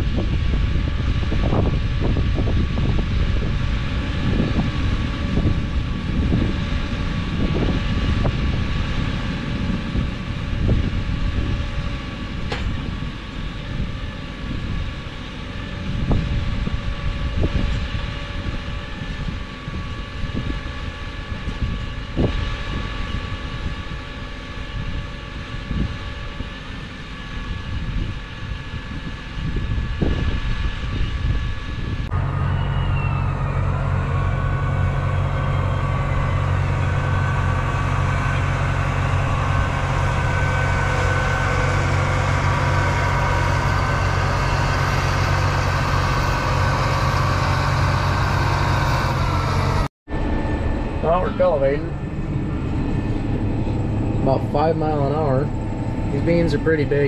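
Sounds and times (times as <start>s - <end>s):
tractor engine rumbling: 0.0s - 57.0s.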